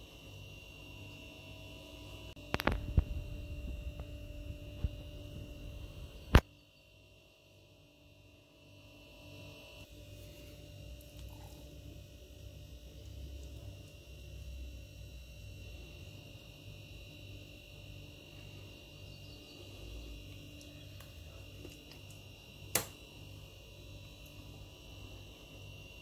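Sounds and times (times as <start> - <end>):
electrical hum with low rumble: 0.0 - 26.0.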